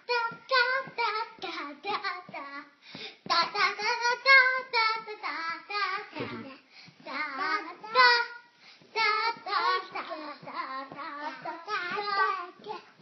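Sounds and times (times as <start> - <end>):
child singing: 0.0 - 13.0.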